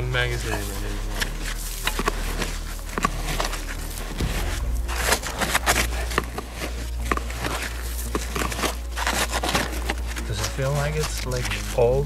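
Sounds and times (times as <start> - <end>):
brush sweeping sandy soil: 0.0 - 12.0.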